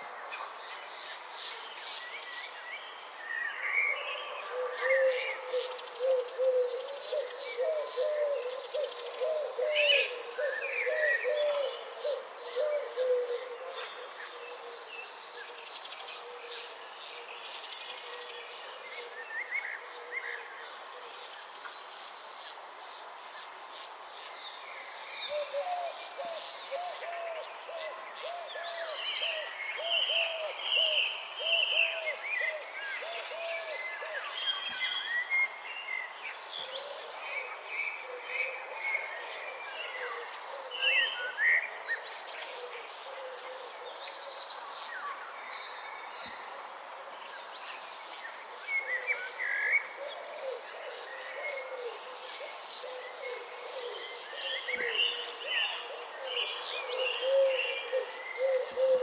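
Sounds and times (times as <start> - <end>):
high insect buzz: 0.7 - 25.3, 31.2 - 59.0.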